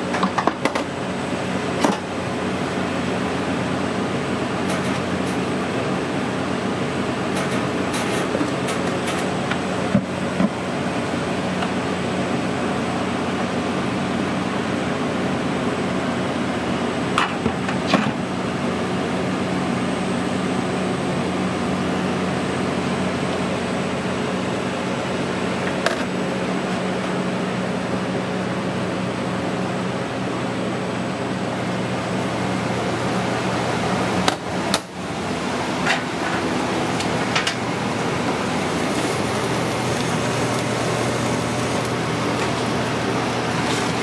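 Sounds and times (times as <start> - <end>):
kitchen equipment hum: 0.0 - 44.0.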